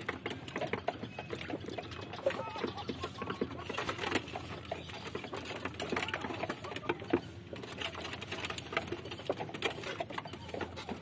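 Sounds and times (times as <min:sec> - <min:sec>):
beaks tapping on metal roof: 0:00.0 - 0:11.0.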